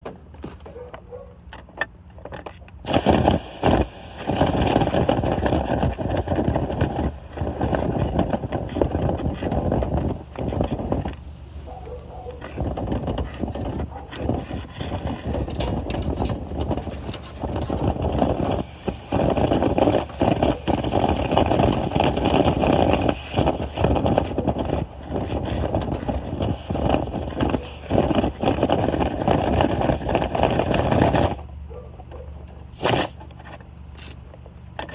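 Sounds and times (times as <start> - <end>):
motor running loudly: 2.9 - 31.5.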